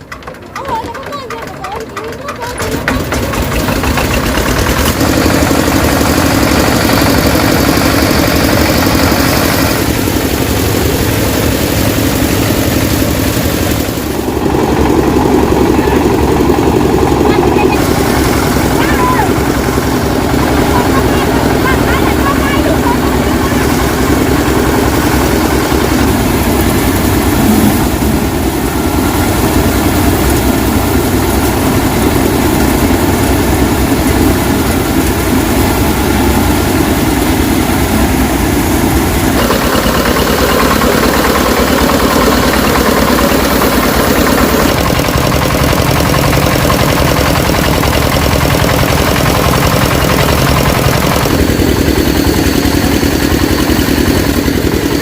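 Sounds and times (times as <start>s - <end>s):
loud engine running: 0.0s - 55.0s.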